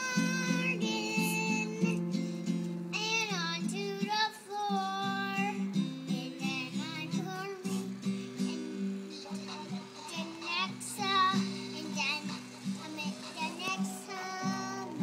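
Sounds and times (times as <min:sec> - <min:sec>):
girl singing: 0:00.0 - 0:02.2, 0:02.9 - 0:15.0
strummed acoustic guitar: 0:00.0 - 0:15.0.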